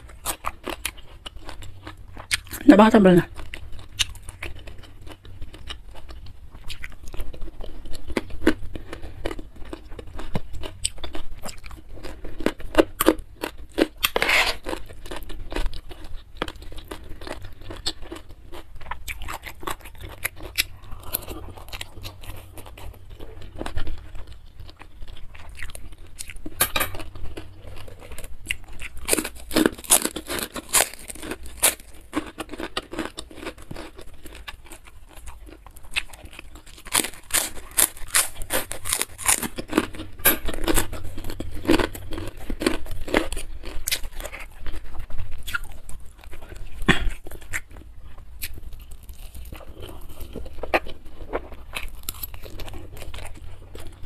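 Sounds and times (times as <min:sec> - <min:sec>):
wet chewing of noodles: 0:00.0 - 0:54.0
crisp crunching bites: 0:03.8 - 0:47.8, 0:48.4 - 0:54.0.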